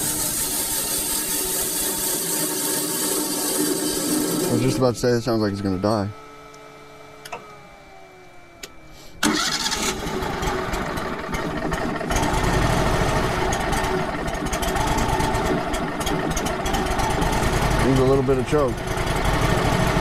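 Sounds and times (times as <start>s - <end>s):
sawmill gas engine starting: 0.0s - 6.6s, 7.2s - 20.0s.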